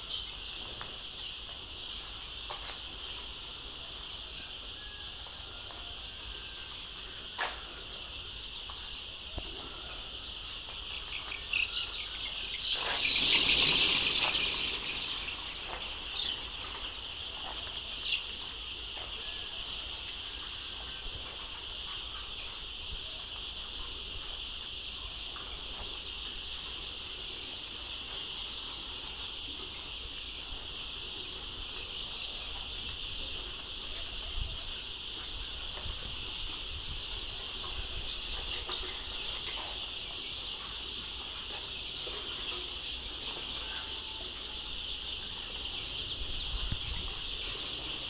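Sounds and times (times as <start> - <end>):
chicks peeping: 0.0 - 48.0.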